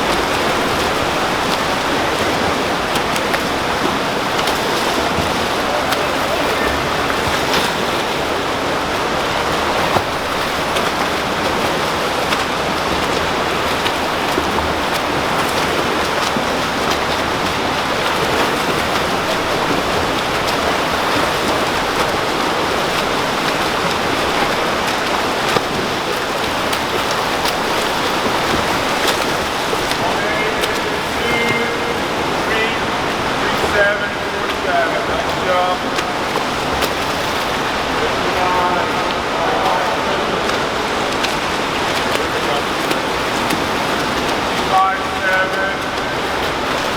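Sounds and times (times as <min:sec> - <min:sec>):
pool water splashing: 0:00.0 - 0:46.9.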